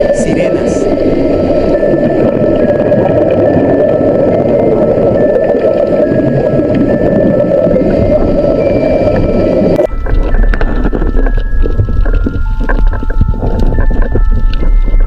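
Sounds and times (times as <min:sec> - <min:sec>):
boat noise: 0:00.0 - 0:15.0
muffled rushing water: 0:00.0 - 0:15.0.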